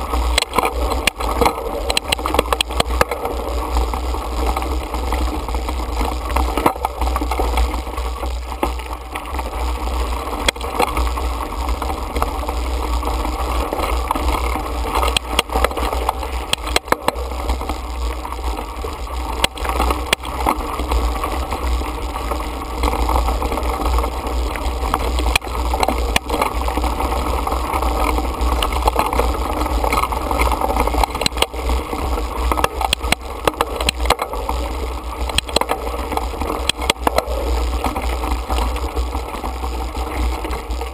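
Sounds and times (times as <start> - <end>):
bike tyres rumbling on dirt: 0.0 - 40.9
stones clicking and bike rattling: 0.0 - 40.9.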